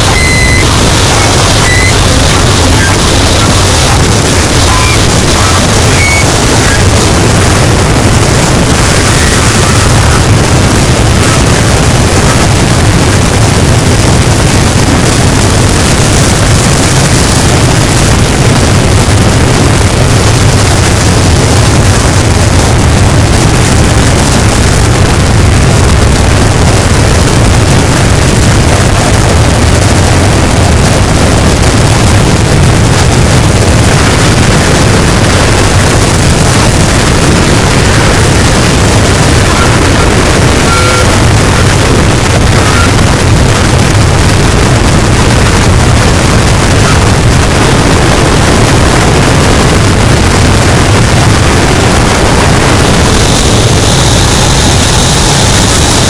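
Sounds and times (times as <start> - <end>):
harsh distorted noise wall: 0.0 - 56.0
heavy low rumble: 0.0 - 56.0.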